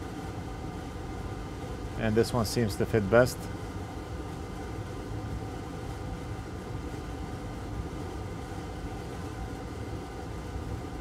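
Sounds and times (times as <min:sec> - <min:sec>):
low hum with faint hiss: 0:00.0 - 0:11.0.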